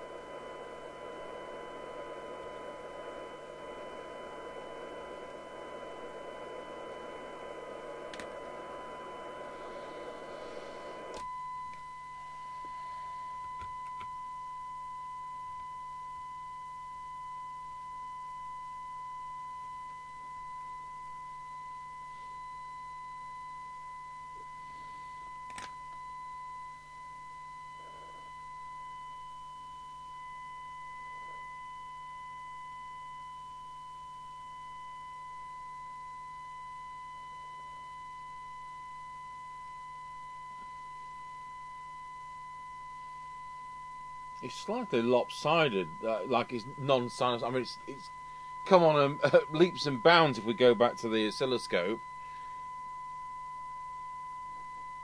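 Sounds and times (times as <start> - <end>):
radio test tone: 0.0 - 15.8, 18.4 - 37.0, 37.9 - 55.0.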